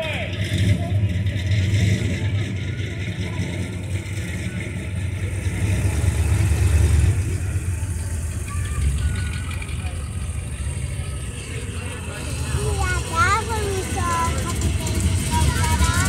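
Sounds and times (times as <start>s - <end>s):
truck engine rumbling past: 0.0s - 16.0s.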